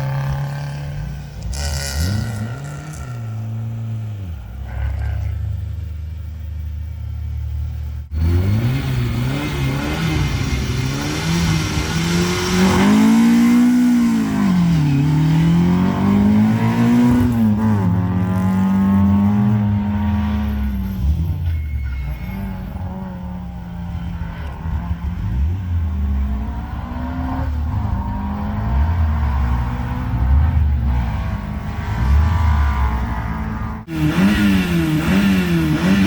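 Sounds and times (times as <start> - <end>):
rally car engine revving: 0.0 - 6.0, 8.0 - 36.0.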